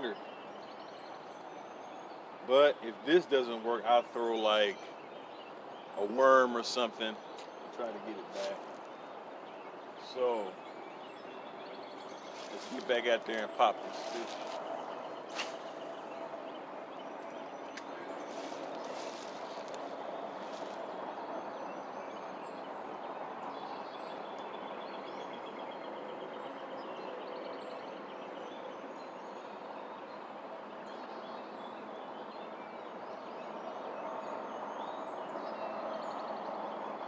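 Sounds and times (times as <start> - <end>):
bird chirps and trills: 0.0 - 37.0
outdoor background noise: 0.0 - 37.0.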